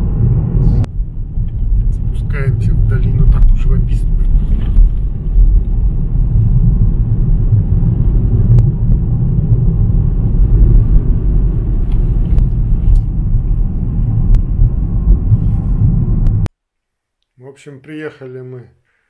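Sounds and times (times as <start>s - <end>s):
car driving rumble from inside: 0.0s - 16.5s.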